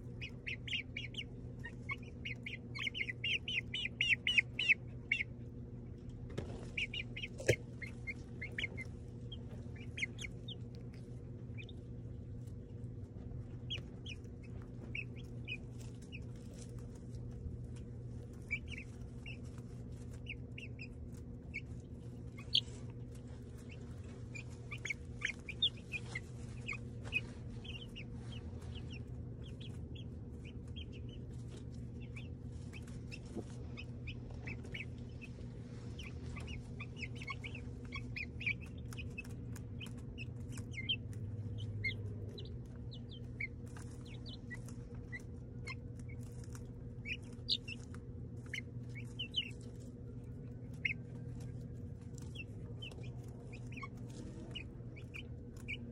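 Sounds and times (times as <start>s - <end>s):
chicks peeping and clucking: 0.0s - 55.9s
low hum: 0.0s - 55.9s.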